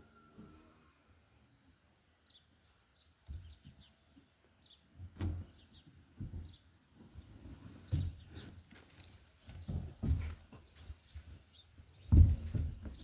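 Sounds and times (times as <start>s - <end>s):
small birds chirping: 1.4s - 13.0s.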